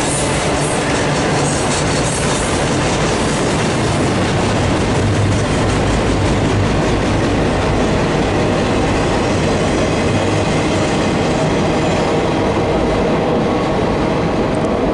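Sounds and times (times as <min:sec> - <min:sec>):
train wheels rumbling on rails: 0:00.0 - 0:14.9.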